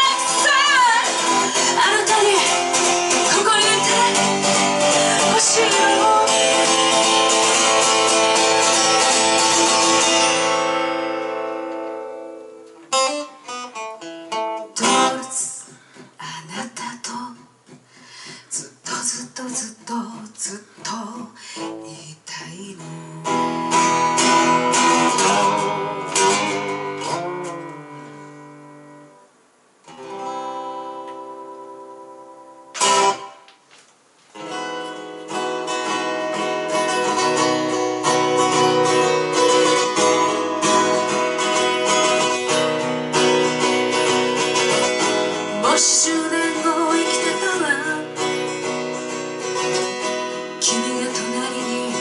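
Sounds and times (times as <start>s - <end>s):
acoustic guitar strumming: 0.0s - 16.2s, 22.8s - 33.6s, 34.3s - 52.0s.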